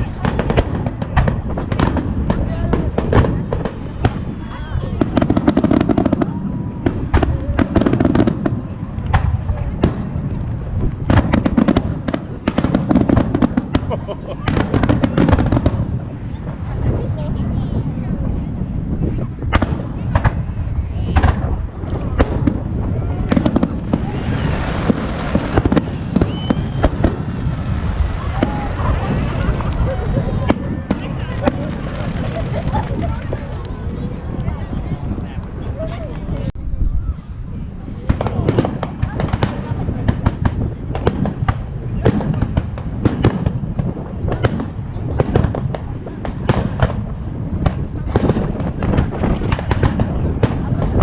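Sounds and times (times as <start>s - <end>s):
fireworks bangs and cracks: 0.0s - 36.9s, 37.5s - 51.0s
low booming rumble: 0.0s - 51.0s.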